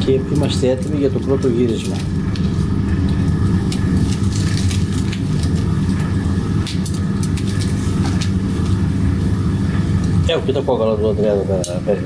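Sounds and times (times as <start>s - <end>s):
fat crackling over coals: 0.0s - 12.0s
meat sizzling on a grill: 0.0s - 12.0s
steady low rumble: 0.0s - 12.0s.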